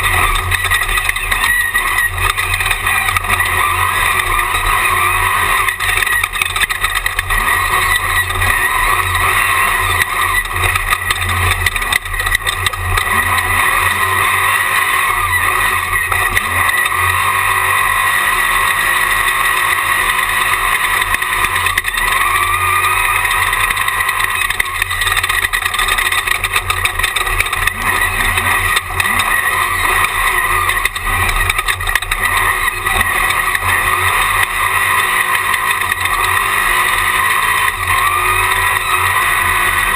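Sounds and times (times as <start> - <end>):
race buggy engine running loudly: 0.0 - 39.9.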